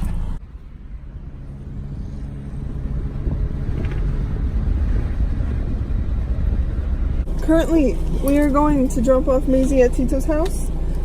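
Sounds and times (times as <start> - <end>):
car driving rumble: 0.0 - 11.0.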